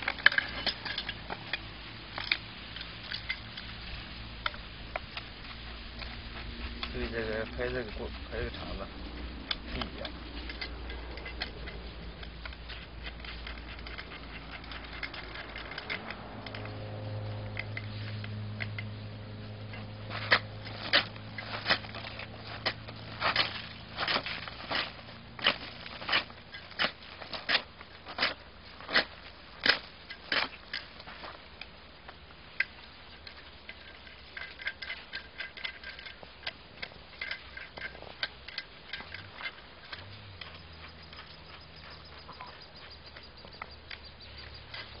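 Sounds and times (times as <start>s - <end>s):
shovel handling clicks and knocks: 0.0s - 3.8s, 4.4s - 19.0s, 19.6s - 45.0s.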